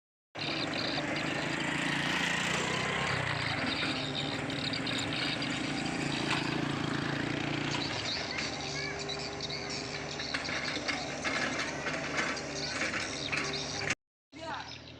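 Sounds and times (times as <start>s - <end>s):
heavy machine diesel engine running: 0.4s - 14.0s.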